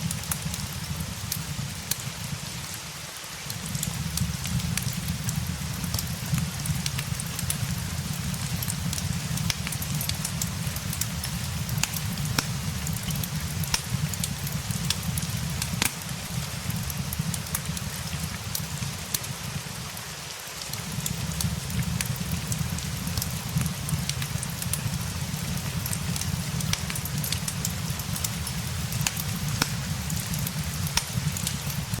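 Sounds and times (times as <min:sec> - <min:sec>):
fireplace crackling and popping: 0:00.0 - 0:32.0
steady rain: 0:00.0 - 0:32.0.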